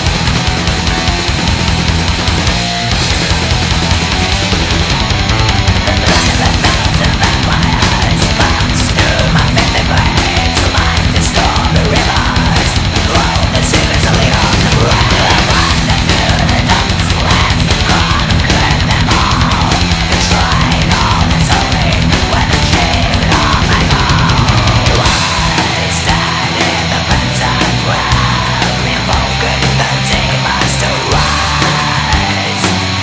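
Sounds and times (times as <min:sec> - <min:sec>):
black metal song: 0:00.0 - 0:33.0
fast dense drumming: 0:00.0 - 0:33.0
guitar melody: 0:00.0 - 0:33.0.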